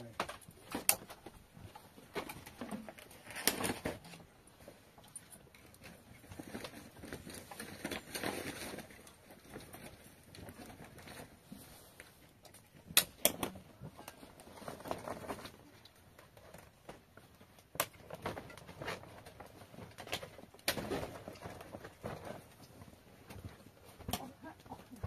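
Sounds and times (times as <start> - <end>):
plastic tarpaulin rustling: 0.0 - 5.0, 5.6 - 25.0.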